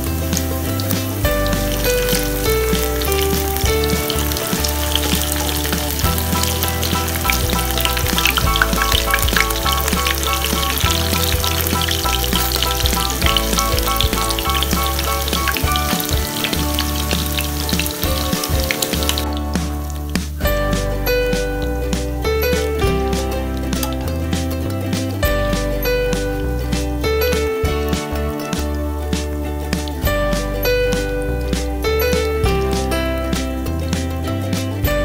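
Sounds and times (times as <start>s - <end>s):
background music with bass line: 0.0s - 35.0s
fritters sizzling in oil: 0.0s - 35.0s.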